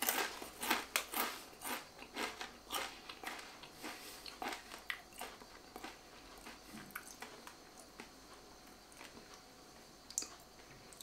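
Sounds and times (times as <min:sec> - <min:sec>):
crisps being chewed: 0:00.0 - 0:09.4.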